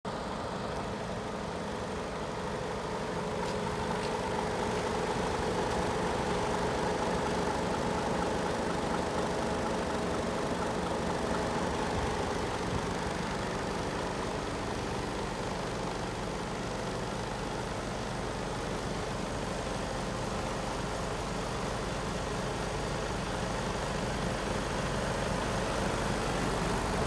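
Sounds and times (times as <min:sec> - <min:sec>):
diesel truck engine idling: 0:00.1 - 0:27.0.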